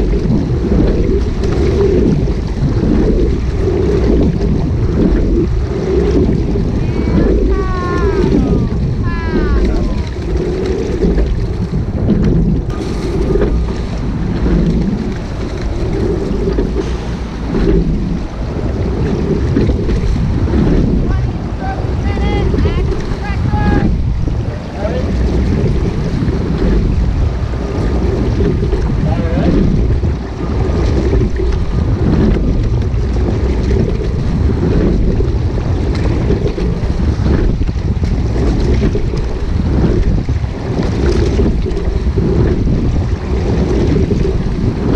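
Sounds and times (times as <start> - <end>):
water rushing along hull: 0.0 - 44.9
wind buffeting microphone: 0.0 - 44.9.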